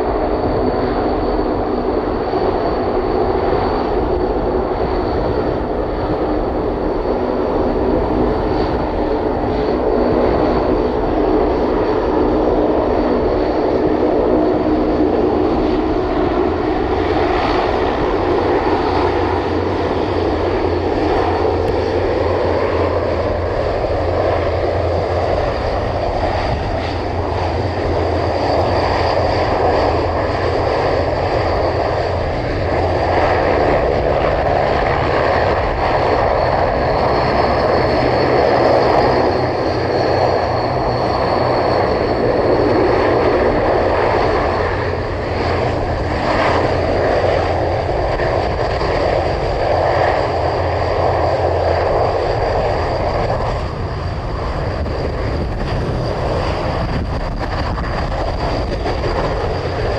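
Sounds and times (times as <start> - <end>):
aircraft engines roaring: 0.0 - 59.9.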